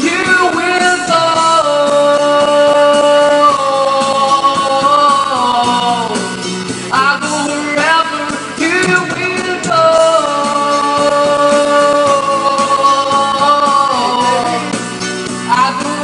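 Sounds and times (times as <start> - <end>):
gliding vocal line: 0.0 - 14.8
guitar accompaniment: 0.0 - 16.0.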